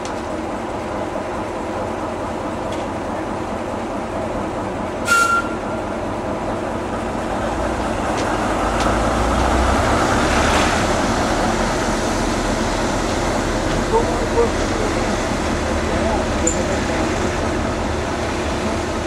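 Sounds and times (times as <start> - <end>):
locomotive rumbling: 0.0 - 19.0.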